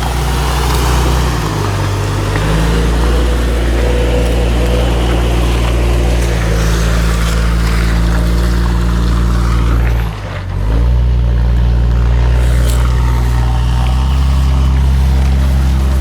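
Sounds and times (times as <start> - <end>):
engine running at low speed: 0.0 - 16.0.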